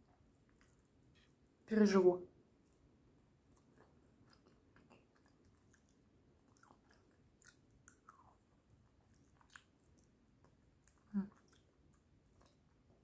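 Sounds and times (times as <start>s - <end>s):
faint chewing: 0.0s - 1.7s, 2.4s - 13.0s.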